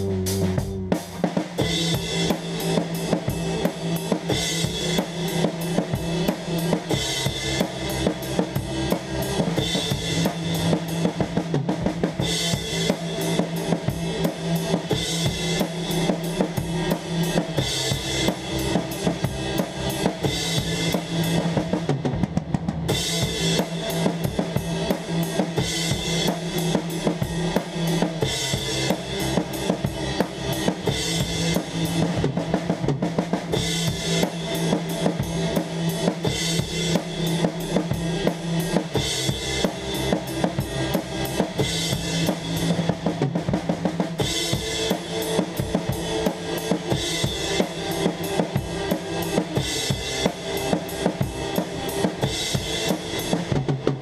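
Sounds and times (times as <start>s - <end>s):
electric bass line: 0.0s - 54.0s.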